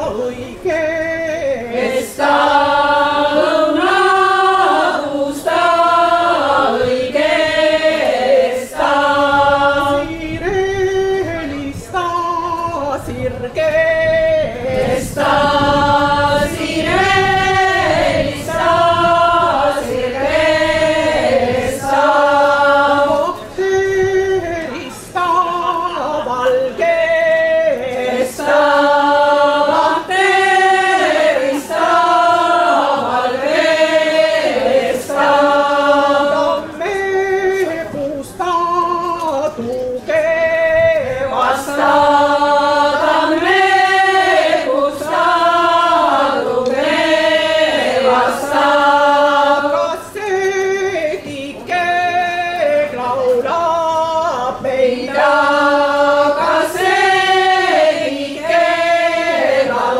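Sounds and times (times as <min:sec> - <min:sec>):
choir singing unaccompanied: 0:00.0 - 0:59.9.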